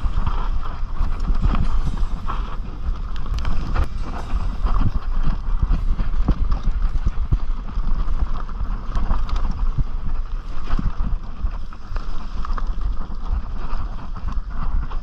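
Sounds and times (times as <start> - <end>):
bike rattling and clattering: 0.0 - 15.0
low rumble: 0.0 - 15.0
tyres crunching over stones: 0.0 - 15.0.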